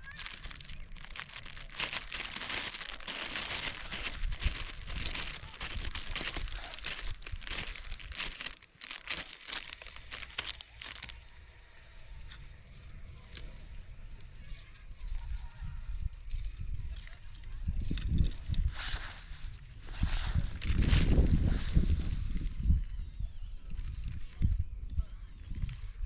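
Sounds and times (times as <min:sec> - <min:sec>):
close rustling and crackling: 0:00.0 - 0:11.4, 0:12.2 - 0:26.0.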